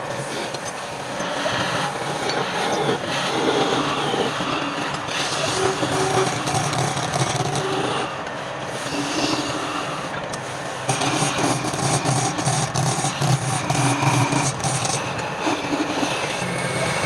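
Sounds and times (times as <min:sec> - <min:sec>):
wood lathe motor hum: 0:00.0 - 0:17.0
turning tool scraping wood: 0:00.4 - 0:08.1, 0:08.7 - 0:10.1, 0:10.8 - 0:17.0.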